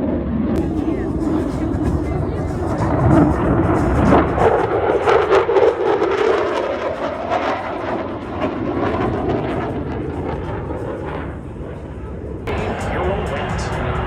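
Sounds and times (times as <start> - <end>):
jet engine running loud: 0.0 - 14.0.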